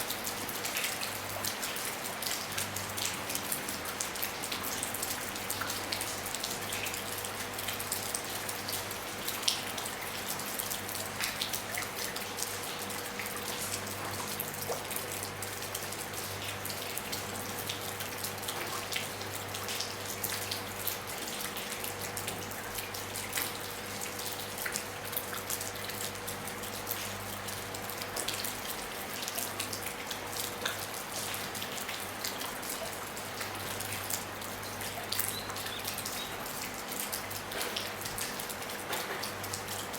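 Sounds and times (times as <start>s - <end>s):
rain pattering on a roof: 0.0s - 39.9s.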